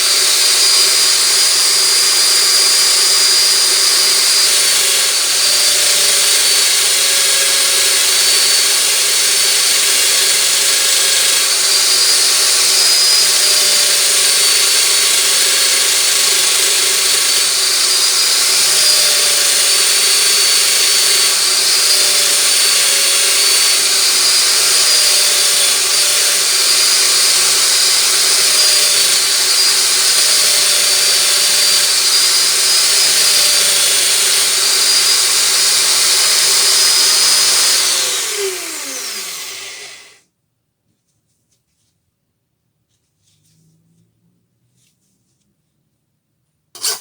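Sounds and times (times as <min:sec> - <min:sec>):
power tool whining and spinning down: 0:00.0 - 0:40.2, 0:46.8 - 0:47.0.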